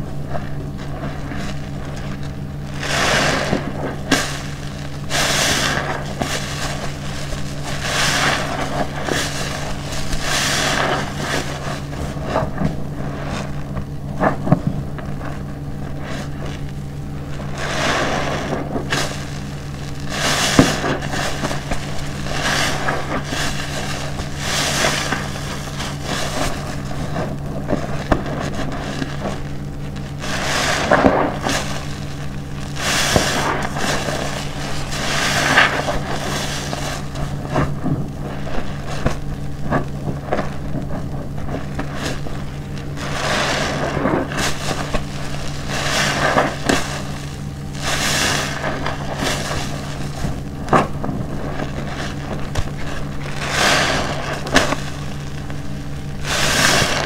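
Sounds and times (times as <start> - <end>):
foam popping: 0.0 - 57.0.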